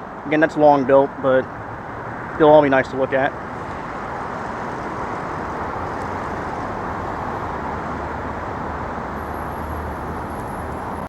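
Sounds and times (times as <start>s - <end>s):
low traffic hum: 0.0s - 11.0s
vehicle and tyre noise: 0.0s - 11.0s.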